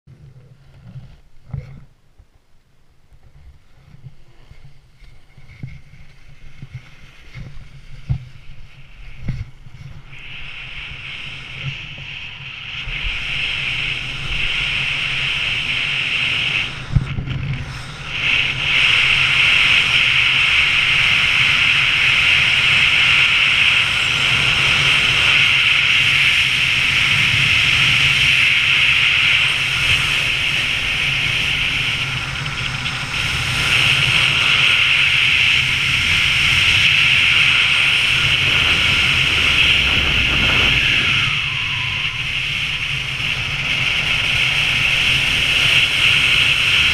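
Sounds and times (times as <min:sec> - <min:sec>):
wind rush on microphone: 0:03.1 - 0:46.9
skis hissing over snow: 0:04.1 - 0:46.9.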